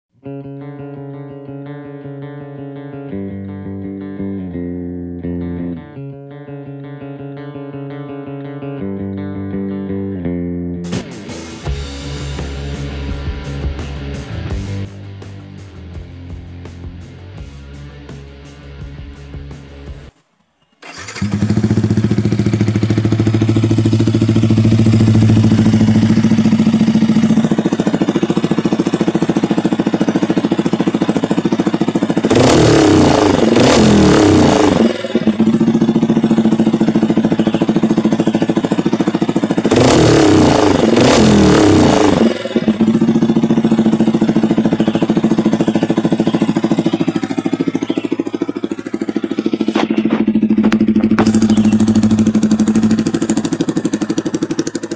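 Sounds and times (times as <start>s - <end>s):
motorcycle engine idling and revving: 0.4s - 54.9s.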